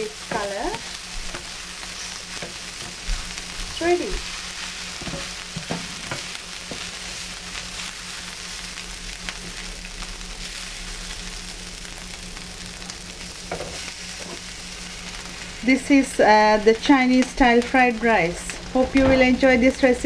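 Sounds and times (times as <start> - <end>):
rice sizzling on griddle: 0.0 - 20.0
steady low hum: 0.0 - 20.0.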